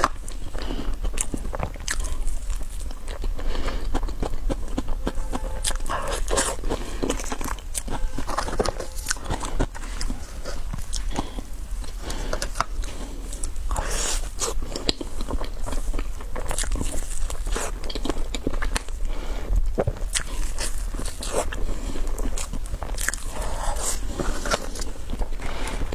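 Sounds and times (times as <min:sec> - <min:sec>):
crunchy chewing: 0:00.0 - 0:25.9.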